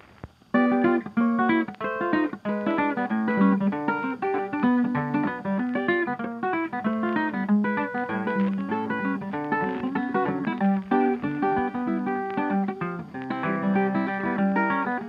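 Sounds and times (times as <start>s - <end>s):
plucked acoustic guitar: 0.5s - 15.0s.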